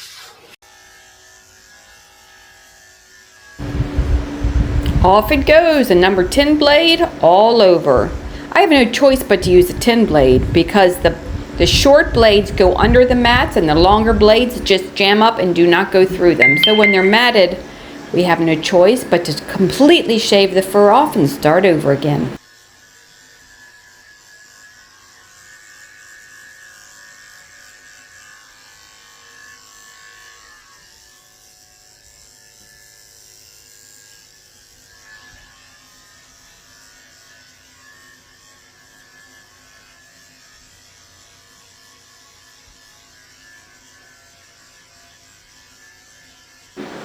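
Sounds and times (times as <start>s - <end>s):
electric clippers running: 0.0s - 16.4s, 17.4s - 47.0s.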